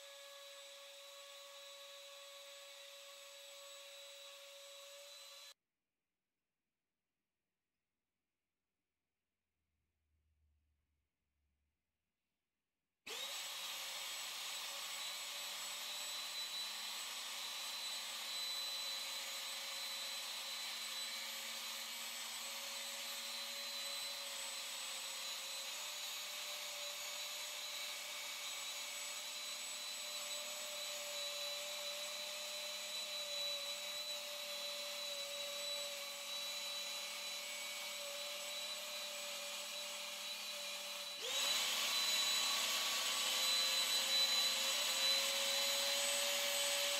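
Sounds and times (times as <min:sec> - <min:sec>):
power tool motor running: 0:00.0 - 0:05.6, 0:13.1 - 0:46.9.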